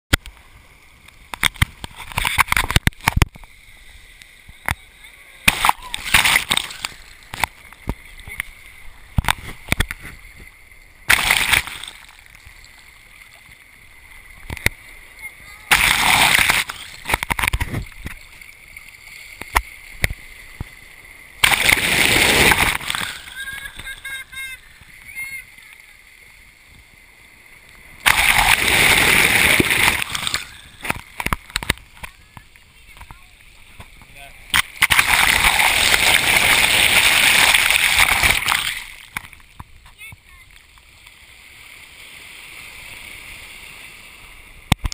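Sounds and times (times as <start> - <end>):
sea water rushing and splashing: 0.2 - 44.9.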